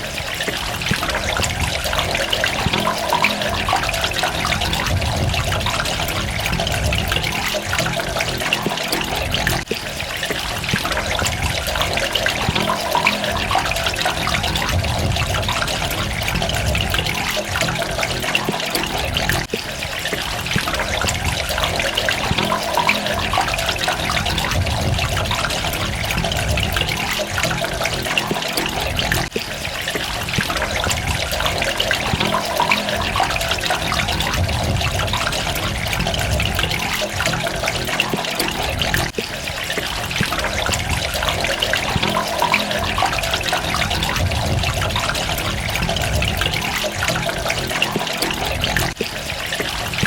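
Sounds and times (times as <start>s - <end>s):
water running and splashing: 0.0s - 50.0s.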